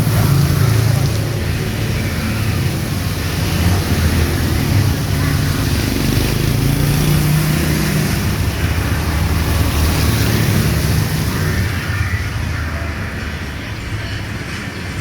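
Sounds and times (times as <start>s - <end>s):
heavy rain: 0.0s - 15.0s
passing vehicle engine hum: 0.0s - 15.0s.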